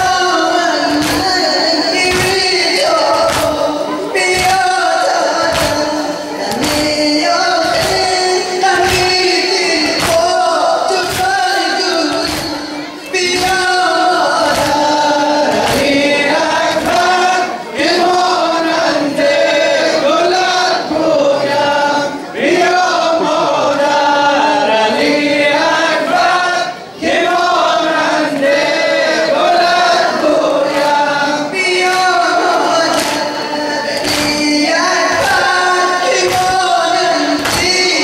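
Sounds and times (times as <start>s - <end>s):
man singing lament into microphone: 0.0s - 22.2s, 27.4s - 38.0s
men chanting in unison: 0.0s - 38.0s.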